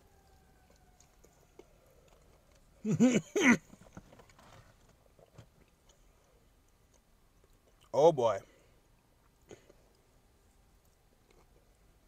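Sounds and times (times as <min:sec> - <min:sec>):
man chewing food: 0:00.0 - 0:07.9, 0:08.7 - 0:12.0.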